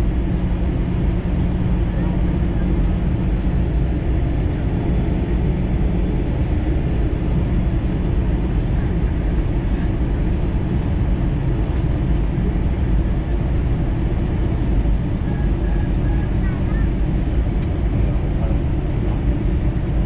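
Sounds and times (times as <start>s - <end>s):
aircraft cabin engine roar: 0.0s - 20.0s.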